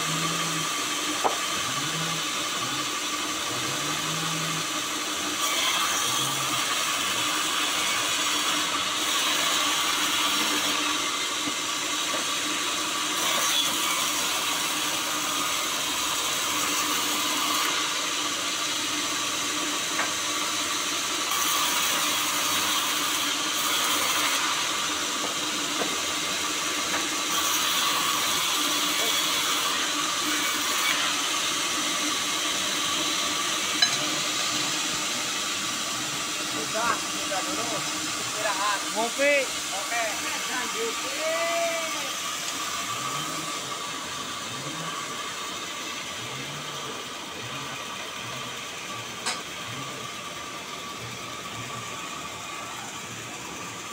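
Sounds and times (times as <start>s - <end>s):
bandsaw cutting a log: 0.0s - 53.9s.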